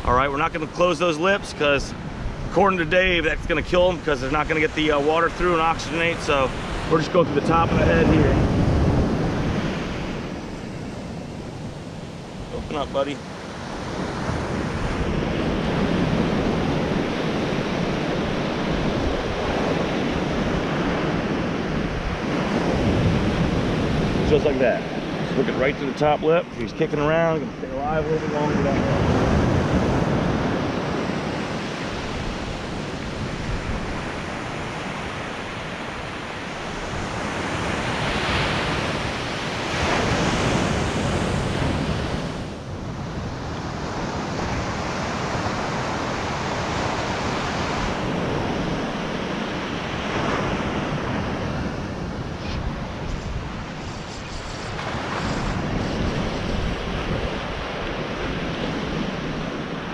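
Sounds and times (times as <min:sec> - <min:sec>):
surf breaking on beach: 0:00.0 - 0:59.9
wind rumbling on microphone: 0:00.0 - 0:59.9.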